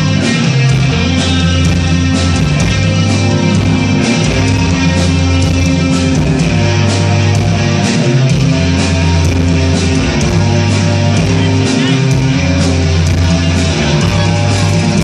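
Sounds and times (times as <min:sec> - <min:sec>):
bass guitar notes: 0:00.0 - 0:15.0
drums: 0:00.0 - 0:15.0
electric guitar: 0:00.0 - 0:15.0.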